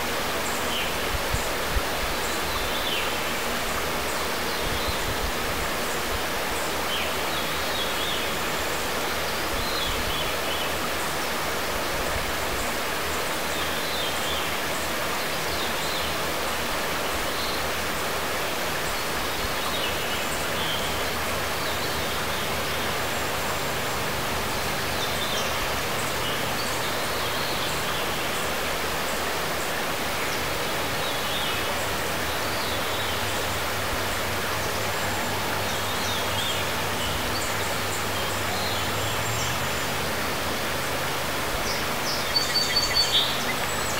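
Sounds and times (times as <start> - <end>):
river rushing over gravel: 0.0 - 43.9.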